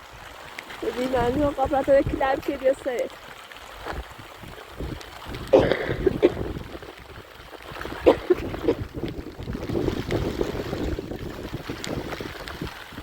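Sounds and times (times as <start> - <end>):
rain and splashing water: 0.0 - 13.0
wind on microphone: 0.8 - 3.0, 3.8 - 13.0.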